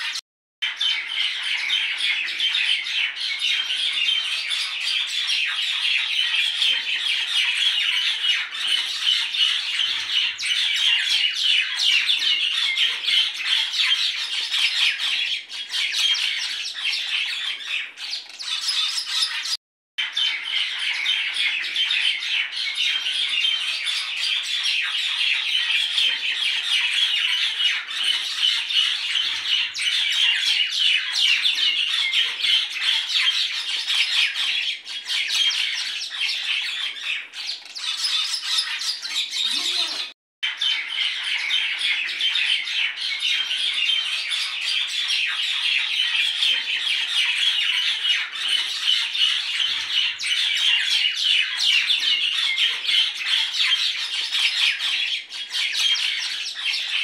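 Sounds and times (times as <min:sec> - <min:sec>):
small birds chirping and squawking: 0:00.0 - 0:57.0.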